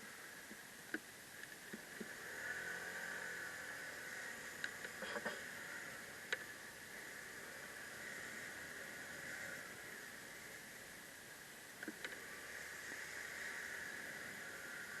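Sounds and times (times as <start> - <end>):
road and traffic hiss: 0.0 - 15.0.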